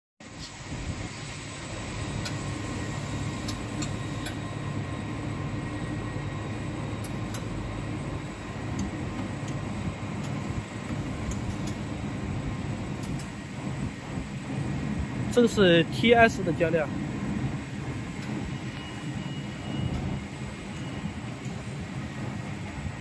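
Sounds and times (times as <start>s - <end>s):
extruder mechanical hum: 0.2s - 23.0s.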